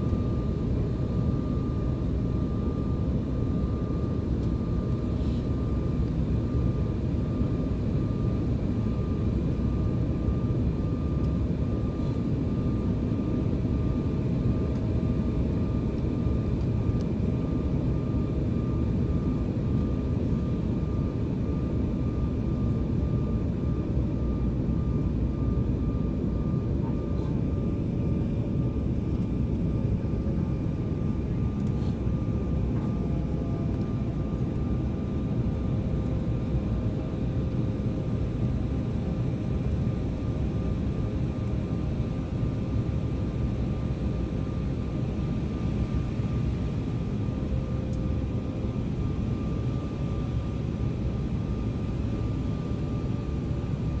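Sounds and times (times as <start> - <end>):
airliner engine and airflow rush: 0.0 - 54.0.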